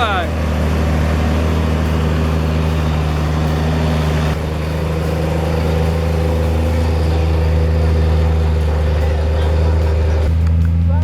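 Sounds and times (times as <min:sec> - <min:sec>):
heavy vehicle engine under load: 0:00.0 - 0:11.0.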